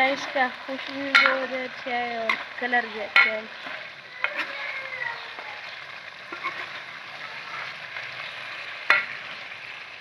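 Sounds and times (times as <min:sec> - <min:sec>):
food sizzling in a metal pan: 0:00.0 - 0:10.0.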